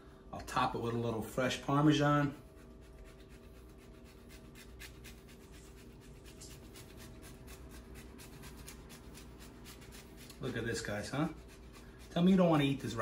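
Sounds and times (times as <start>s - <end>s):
cheese grating on hand grater: 2.5s - 13.0s.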